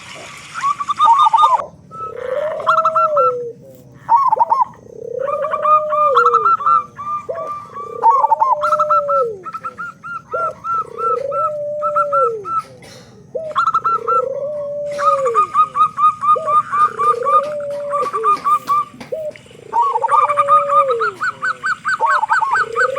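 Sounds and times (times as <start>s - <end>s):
doves cooing: 0.0s - 22.9s.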